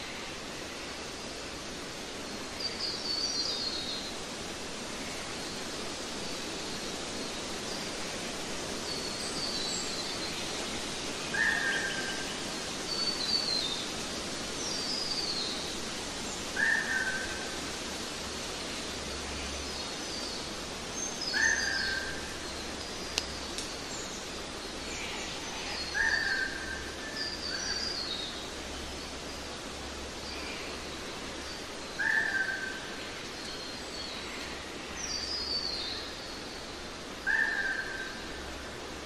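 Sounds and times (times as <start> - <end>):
background hiss: 0.0 - 39.0.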